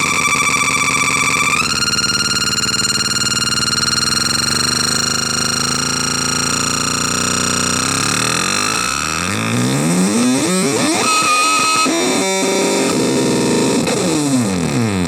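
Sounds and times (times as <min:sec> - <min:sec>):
noise synthesizer droning: 0:00.0 - 0:14.7.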